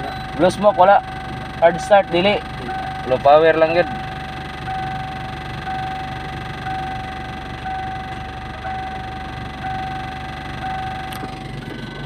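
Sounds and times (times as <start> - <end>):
car warning chime beeping: 0.0 - 12.0
diesel engine idling: 0.0 - 12.0.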